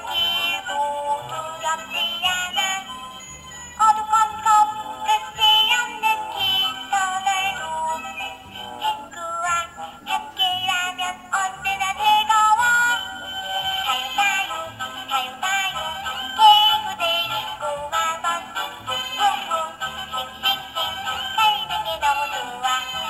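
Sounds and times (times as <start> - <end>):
synthetic singing voice: 0.0 - 3.0, 3.8 - 23.0
background music: 0.0 - 23.0.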